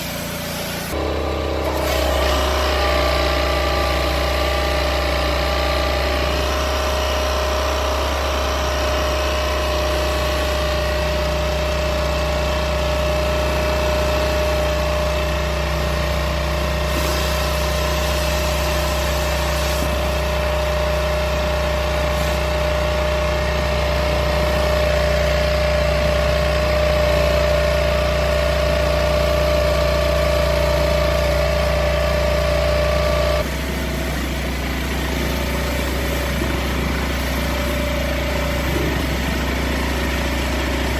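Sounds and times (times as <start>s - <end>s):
pressure washer engine running: 0.0s - 40.9s.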